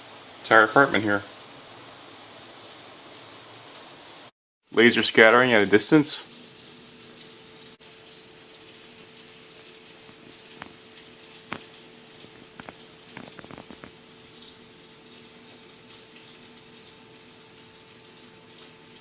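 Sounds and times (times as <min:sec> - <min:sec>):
small cooling fan hum: 0:00.0 - 0:19.0.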